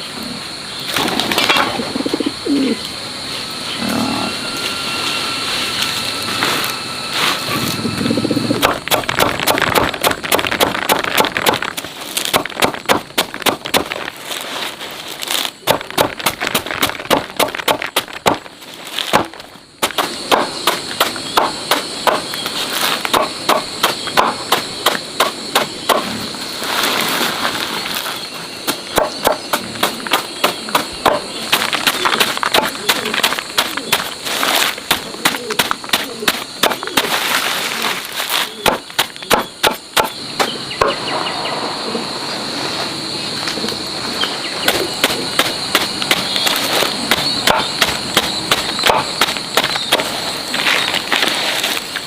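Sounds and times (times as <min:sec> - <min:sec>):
faint high whine: 0:00.0 - 0:52.0.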